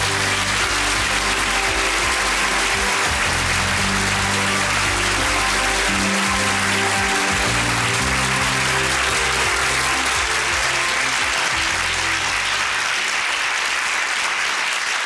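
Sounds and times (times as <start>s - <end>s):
walk-on music: 0.0s - 13.0s
audience applauding: 0.0s - 15.0s.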